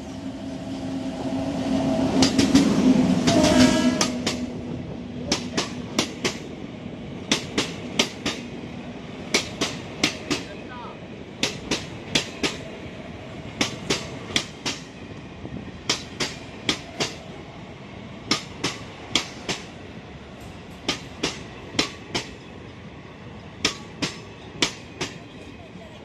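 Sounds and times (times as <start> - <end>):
train coaches rumbling past: 0.0 - 26.0.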